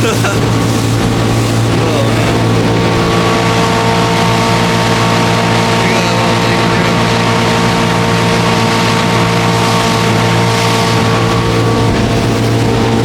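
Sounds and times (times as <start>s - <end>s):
outboard motor running: 0.0s - 13.0s
water rushing: 0.0s - 13.0s.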